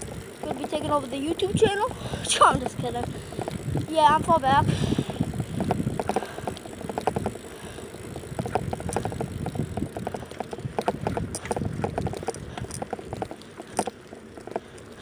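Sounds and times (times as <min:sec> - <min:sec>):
bicycle rattling and ticking: 0:00.0 - 0:15.0
bicycle tyres rumbling: 0:00.0 - 0:15.0
wind: 0:00.0 - 0:15.0.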